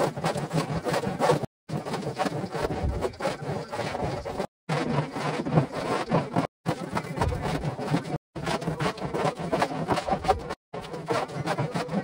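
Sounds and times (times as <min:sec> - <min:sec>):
hand plane shaving wood: 0:00.0 - 0:12.0.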